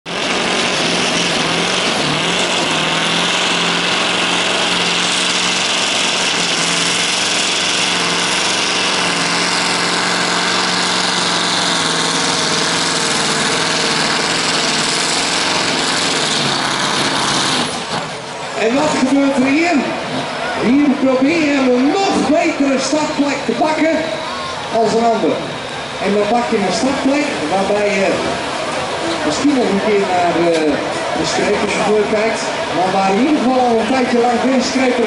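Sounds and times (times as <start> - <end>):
truck diesel engine under load: 0.0 - 35.0.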